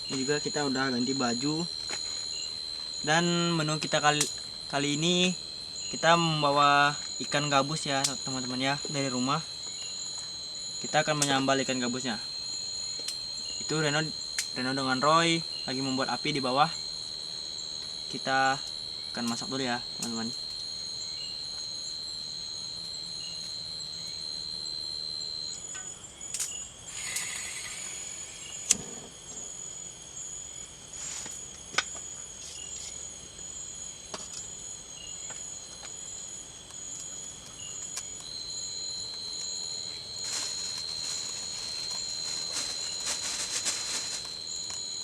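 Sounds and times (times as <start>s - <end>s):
insect pulsing chirp: 0.0s - 45.0s
insect rasping trills: 0.0s - 45.0s
insects high-pitched buzz: 0.0s - 45.0s.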